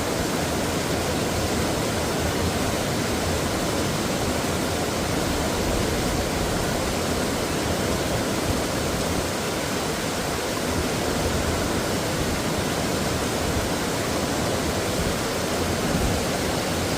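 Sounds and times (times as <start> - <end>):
stream flowing over rocks: 0.0 - 16.9.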